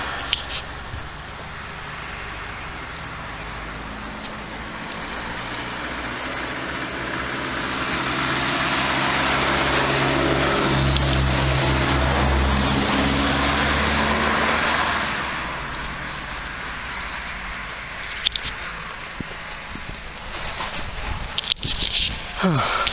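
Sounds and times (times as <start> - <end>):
car driving past: 0.0 - 20.9.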